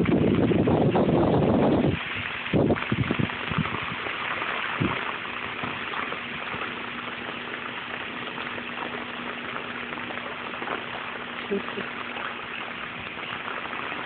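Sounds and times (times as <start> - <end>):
heavy rain pouring on street: 0.0 - 14.0.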